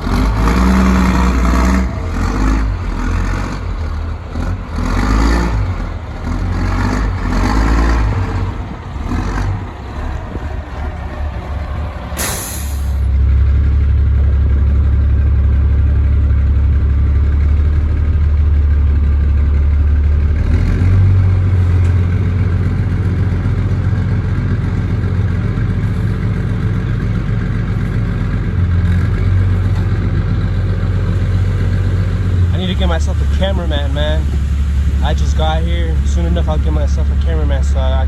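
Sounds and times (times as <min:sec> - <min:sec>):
diesel truck engine idling: 0:00.0 - 0:38.0.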